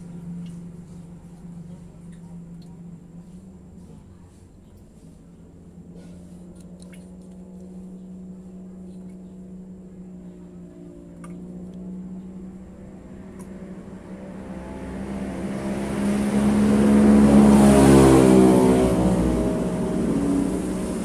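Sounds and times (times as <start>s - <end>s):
motor vehicle engine hum: 0.0s - 21.0s.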